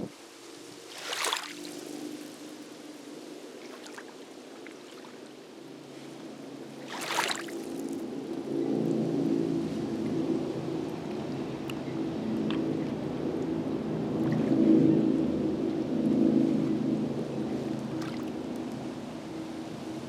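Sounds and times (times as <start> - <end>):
waves lapping against shore: 0.0 - 13.6, 16.1 - 20.0.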